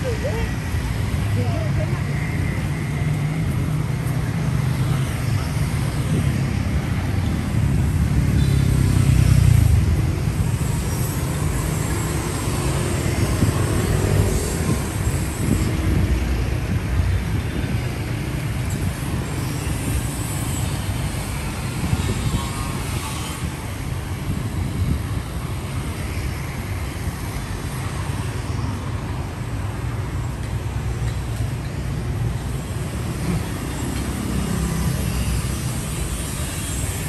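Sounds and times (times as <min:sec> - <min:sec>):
scooters and cars passing: 0:00.0 - 0:37.0.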